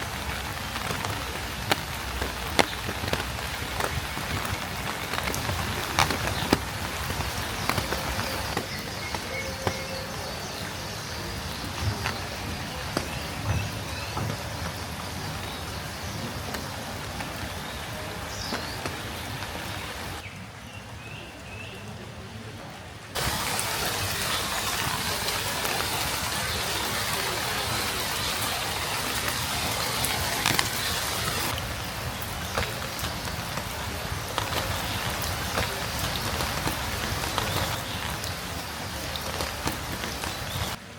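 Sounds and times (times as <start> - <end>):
drops pattering: 0.0 - 20.2, 24.4 - 40.8
steady rain: 0.0 - 40.9.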